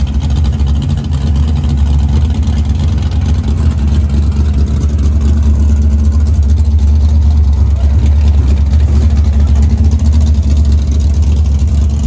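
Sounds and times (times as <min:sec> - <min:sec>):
racing car engine rumbling: 0:00.0 - 0:12.0.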